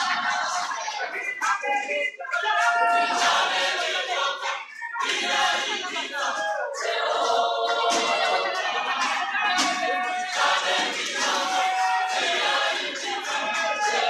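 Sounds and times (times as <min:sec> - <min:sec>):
gospel choir singing: 0:00.0 - 0:14.0.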